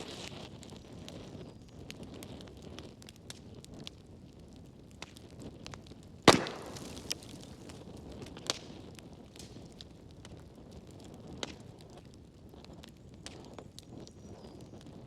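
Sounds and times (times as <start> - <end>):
fire crackling in fireplace: 0.0 - 15.0
fire popping: 0.0 - 15.0.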